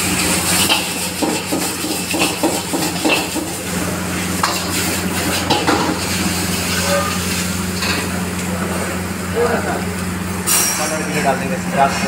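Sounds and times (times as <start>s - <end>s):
frying sizzle: 0.0s - 10.4s.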